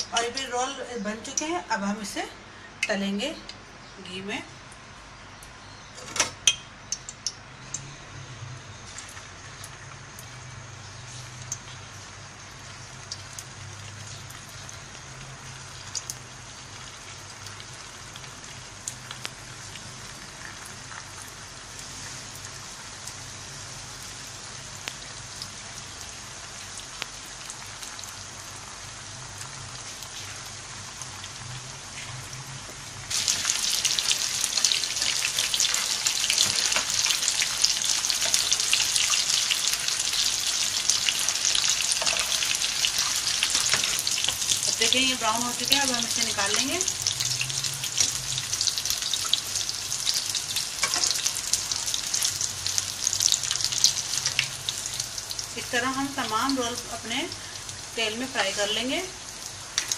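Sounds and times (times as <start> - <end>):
oil sizzling and popping: 0.0 - 1.6, 4.7 - 7.9, 8.7 - 59.9.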